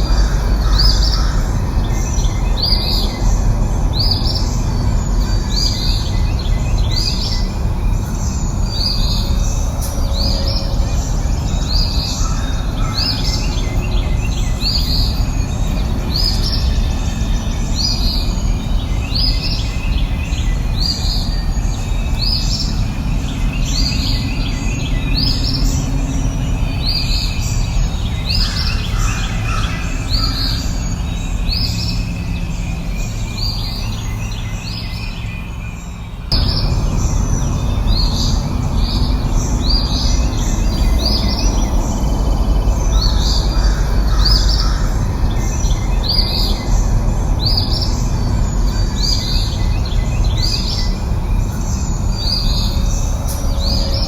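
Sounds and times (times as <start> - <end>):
bird chirping: 0.0 - 54.0
low rushing background: 0.0 - 54.0.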